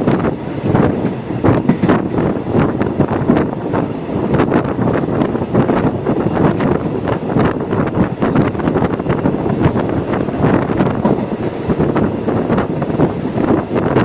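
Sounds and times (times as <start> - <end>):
train clattering: 0.0 - 14.0
train rumbling: 0.0 - 14.0
wind buffeting microphone: 0.0 - 14.0.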